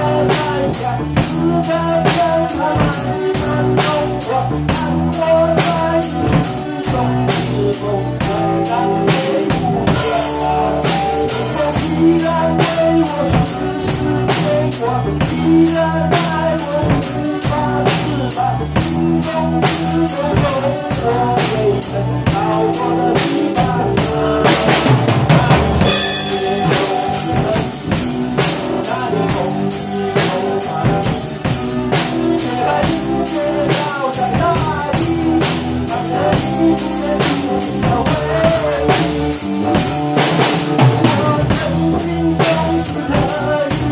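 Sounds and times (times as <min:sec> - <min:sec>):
drum kit playing rock beat: 0:00.0 - 0:43.9
instrumental backing track: 0:00.0 - 0:43.9.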